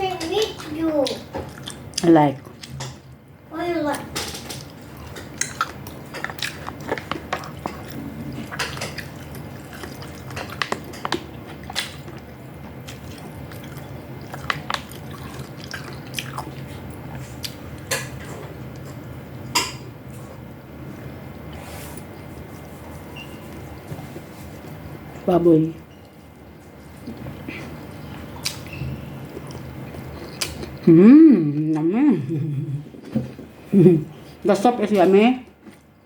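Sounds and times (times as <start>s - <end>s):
low steady hum: 0.0s - 36.0s
chewing and wet mouth sounds: 0.1s - 3.3s, 3.9s - 20.4s, 21.5s - 31.9s.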